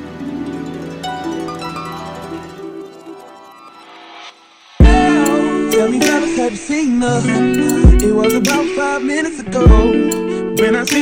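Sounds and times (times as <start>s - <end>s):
soft plucked-string music: 0.0s - 3.6s, 4.8s - 11.0s.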